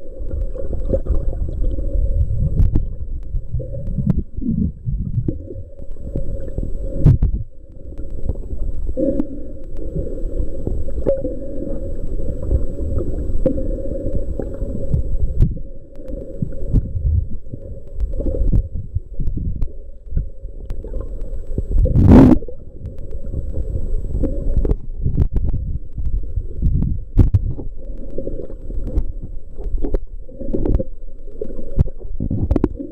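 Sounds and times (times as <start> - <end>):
muffled underwater rumbling: 0.0 - 32.9
faint clicks: 5.1 - 16.9, 17.5 - 32.8.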